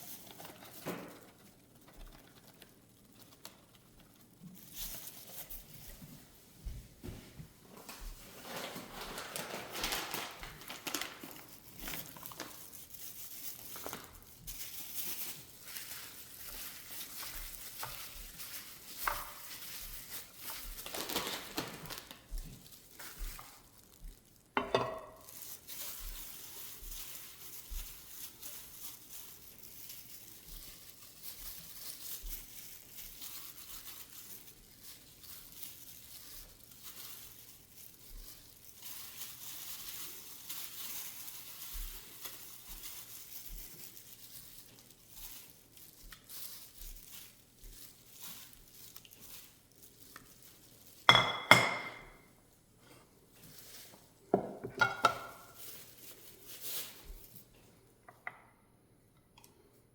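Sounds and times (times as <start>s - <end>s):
crinkling and rustling of food: 0.0s - 59.9s.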